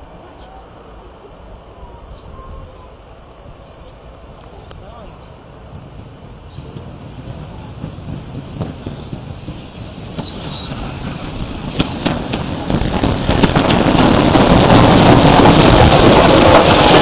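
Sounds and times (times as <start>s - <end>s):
steam locomotive approaching: 0.0s - 17.0s.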